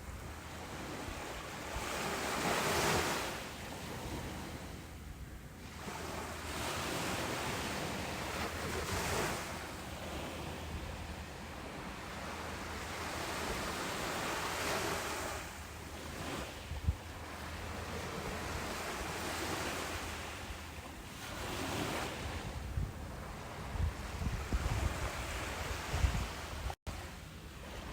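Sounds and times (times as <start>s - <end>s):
wind rumble on microphone: 0.0s - 27.9s.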